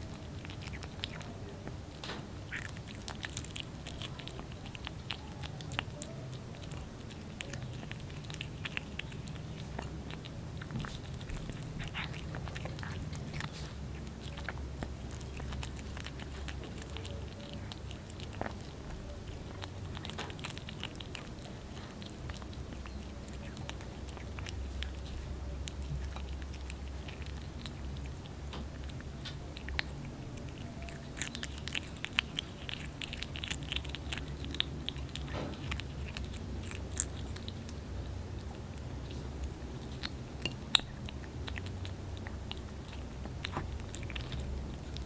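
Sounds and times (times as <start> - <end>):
kitten chewing wet clicks: 0.0 - 45.0.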